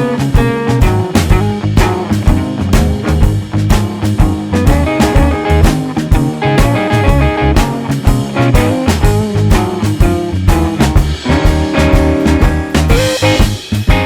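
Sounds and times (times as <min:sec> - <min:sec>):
guitar rock music with drums: 0:00.0 - 0:14.0.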